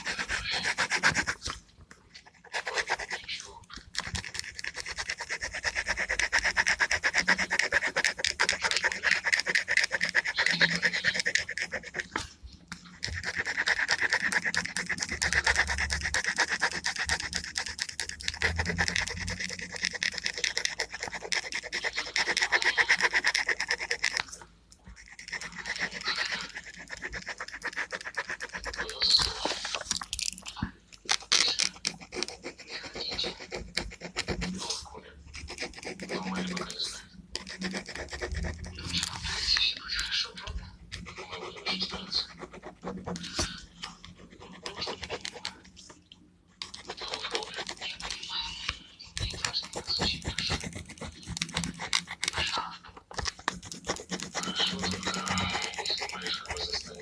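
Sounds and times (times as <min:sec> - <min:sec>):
pen scratching on paper: 0:00.0 - 0:57.0.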